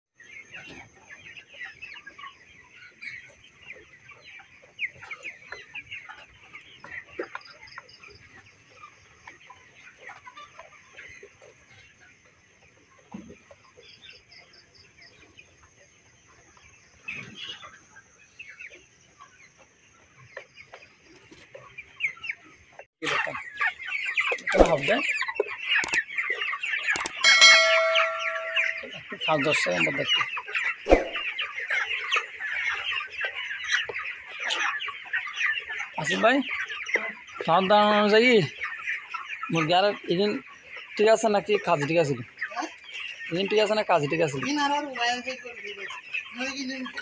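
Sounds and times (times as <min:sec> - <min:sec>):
chickens clucking and chirping: 0:00.2 - 0:47.0.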